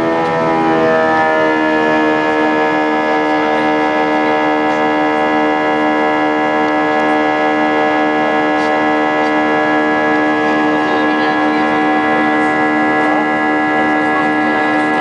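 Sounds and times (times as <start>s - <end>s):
jet engine drone in cabin: 0.0s - 15.0s.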